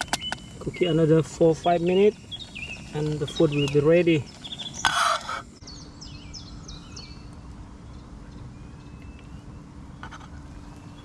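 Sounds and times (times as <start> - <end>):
low hum and rumble: 0.0 - 11.0
small bird chirping: 0.0 - 11.0.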